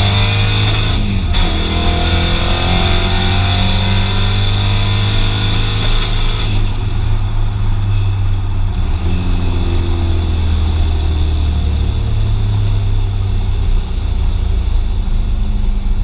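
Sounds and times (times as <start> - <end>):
car engine droning at low revs: 0.0 - 16.0.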